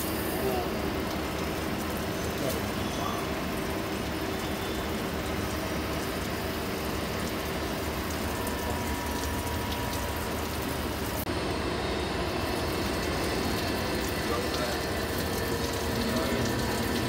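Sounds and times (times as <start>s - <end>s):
coolant spray rushing: 0.0s - 17.0s
machine hum: 0.0s - 17.0s.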